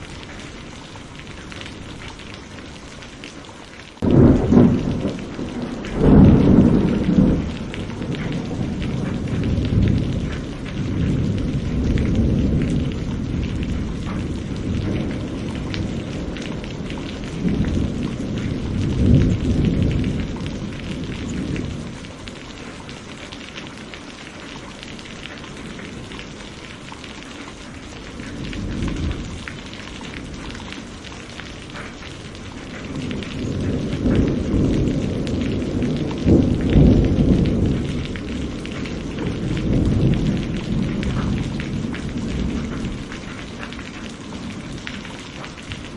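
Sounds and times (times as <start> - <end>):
steady rain: 0.0 - 45.9
rolling thunder: 4.0 - 22.9, 27.8 - 45.9.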